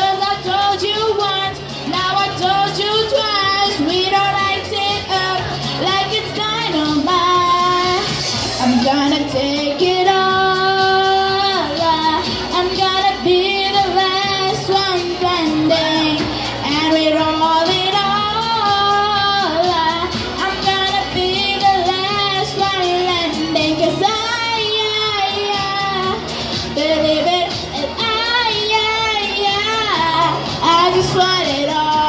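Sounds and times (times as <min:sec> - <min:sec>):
accompaniment music: 0:00.0 - 0:32.0
girl singing: 0:00.0 - 0:32.0.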